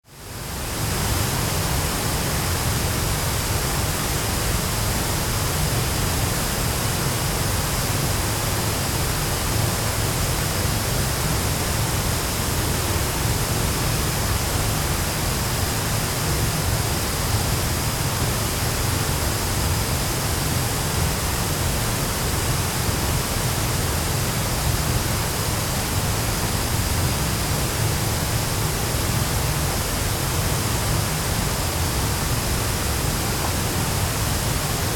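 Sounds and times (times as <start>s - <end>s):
waterfall rushing: 0.7s - 34.9s.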